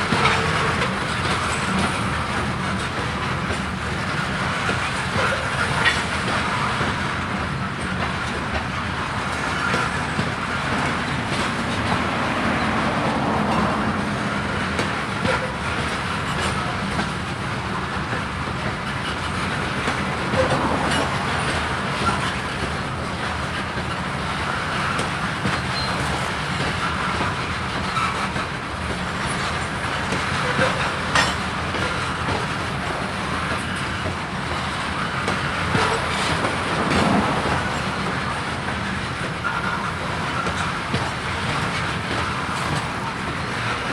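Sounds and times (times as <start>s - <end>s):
freight train rolling past: 0.0s - 43.9s
wheels clacking over rail joints: 0.0s - 43.9s.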